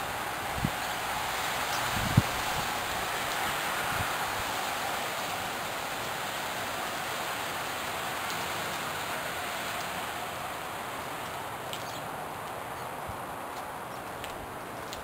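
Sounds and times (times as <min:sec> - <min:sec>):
splashing falling water: 0:00.0 - 0:15.0.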